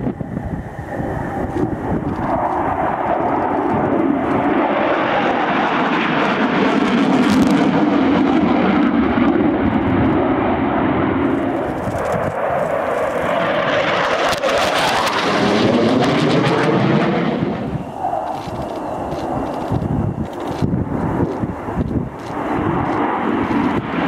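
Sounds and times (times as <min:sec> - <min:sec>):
aircraft engine roar: 0:00.0 - 0:24.0
wind buffeting microphone: 0:00.0 - 0:24.0.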